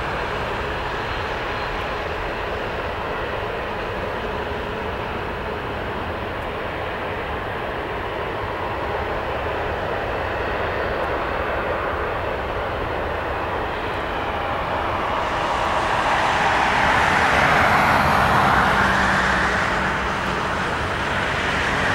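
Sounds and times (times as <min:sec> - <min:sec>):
jet engine roar: 0:00.0 - 0:21.9.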